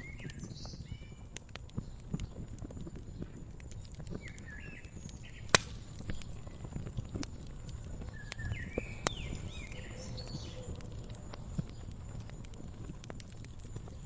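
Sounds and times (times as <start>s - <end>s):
low rumble of flame: 0.0s - 14.0s
small birds chirping: 0.0s - 14.0s
wood fire crackling: 0.0s - 14.0s.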